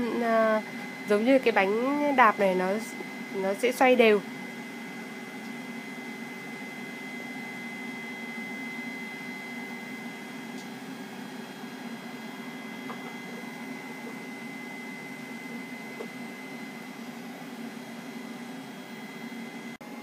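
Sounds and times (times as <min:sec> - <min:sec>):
air fryer fan whooshing: 0:00.0 - 0:20.0
thin high whine: 0:00.0 - 0:20.0.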